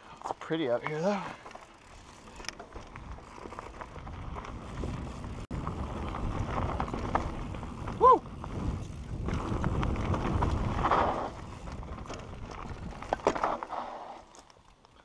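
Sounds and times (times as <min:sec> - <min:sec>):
bike rattling and clicking: 0:00.0 - 0:15.0
bike tyres crunching on dirt: 0:00.0 - 0:15.0.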